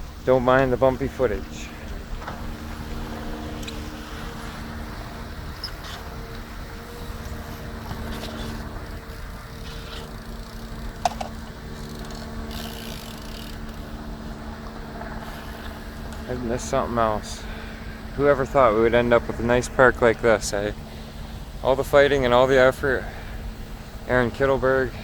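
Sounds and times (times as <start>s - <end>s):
low outdoor rumble: 0.0s - 25.0s
mechanical engine hum: 0.0s - 25.0s.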